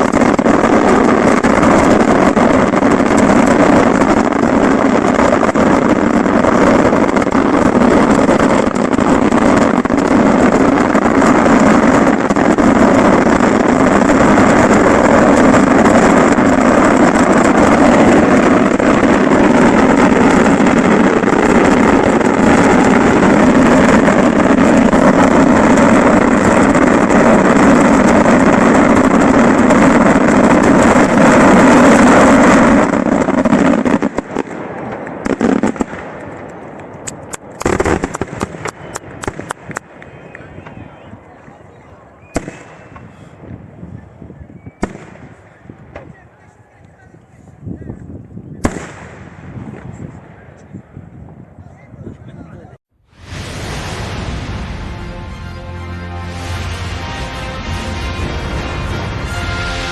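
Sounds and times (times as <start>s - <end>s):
firework bangs: 0.0s - 51.7s, 53.1s - 59.9s
fireworks barrage roar: 0.0s - 59.9s.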